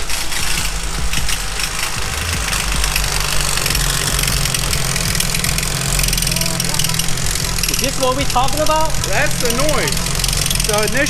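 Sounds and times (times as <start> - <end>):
car engine idling: 0.0 - 11.0
fast ticking rattle: 0.0 - 11.0.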